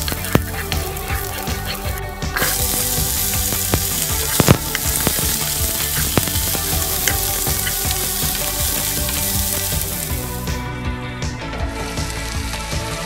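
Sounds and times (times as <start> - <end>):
vegetables sizzling in hot oil: 0.0 - 10.6.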